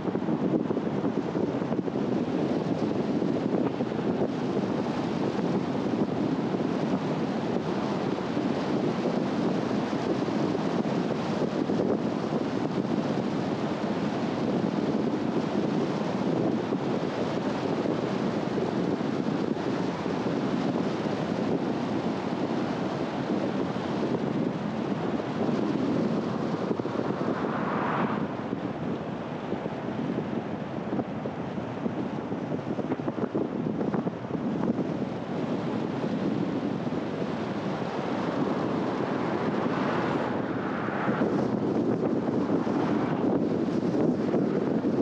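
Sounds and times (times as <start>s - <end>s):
car tyre and wind noise: 0.0s - 45.0s.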